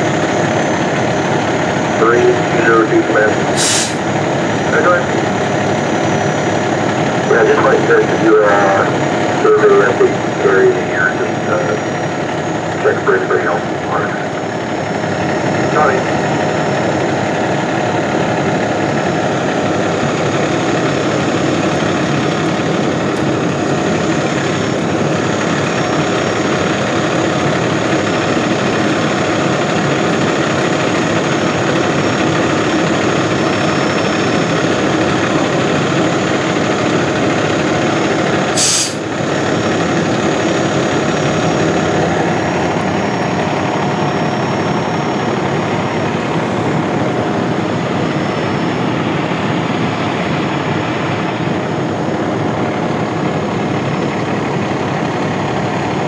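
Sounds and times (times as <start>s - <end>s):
heavy vehicle engine idling: 0.0s - 56.0s.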